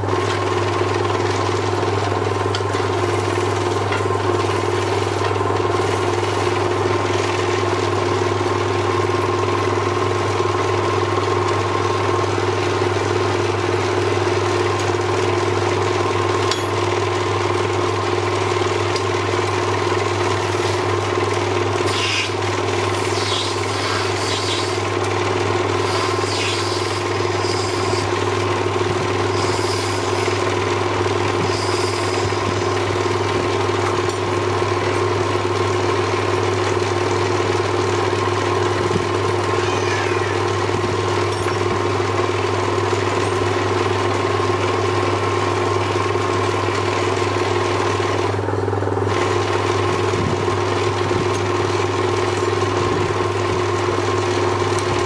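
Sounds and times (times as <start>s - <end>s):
electric lathe motor hum: 0.0s - 55.0s.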